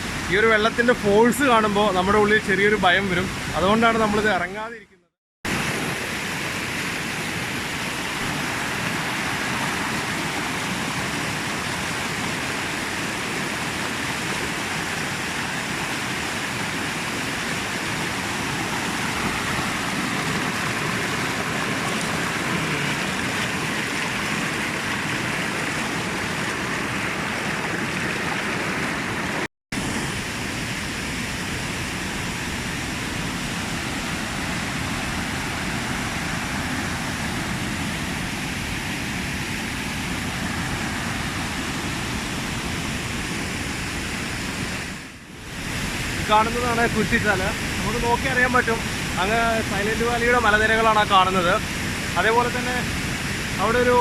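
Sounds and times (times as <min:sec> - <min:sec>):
river rushing over rocks: 0:05.5 - 0:54.0.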